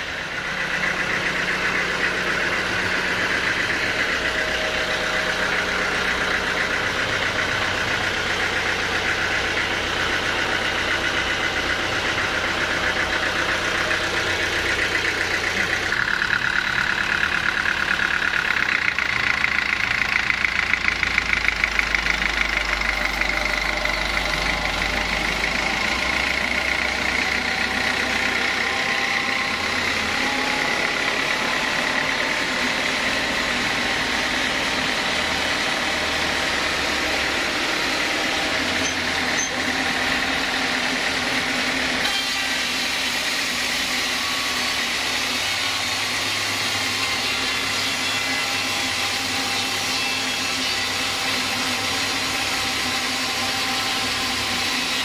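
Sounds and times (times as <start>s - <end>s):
band sawmill droning: 0.0s - 55.0s.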